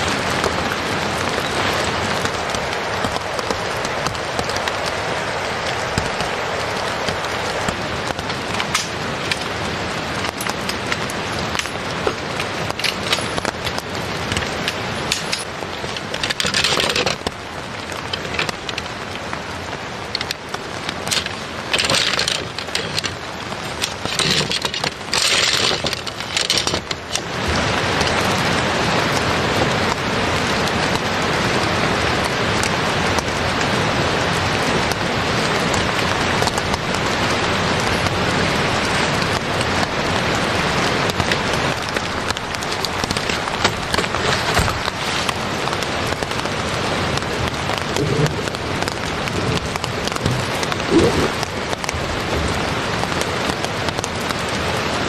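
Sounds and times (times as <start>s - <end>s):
tent poles clacking and rattling: 0.0s - 30.0s, 32.0s - 55.0s
steady rain falling: 0.0s - 55.0s.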